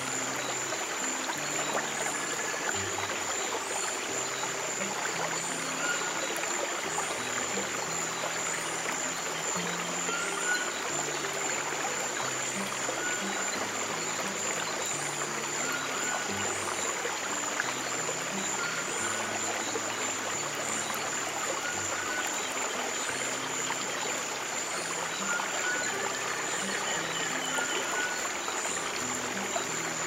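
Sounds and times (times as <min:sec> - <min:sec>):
soft low sustained music: 0:00.0 - 0:30.0
stream water trickling: 0:00.0 - 0:30.0.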